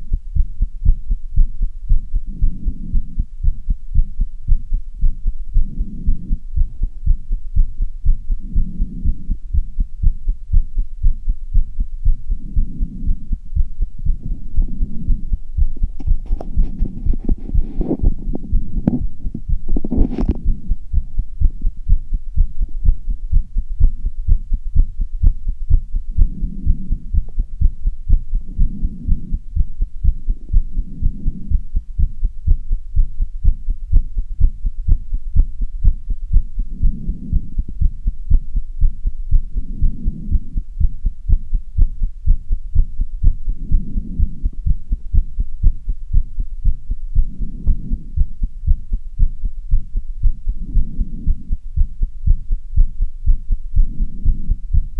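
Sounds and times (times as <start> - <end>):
heart beating fast: 0.0 - 54.9.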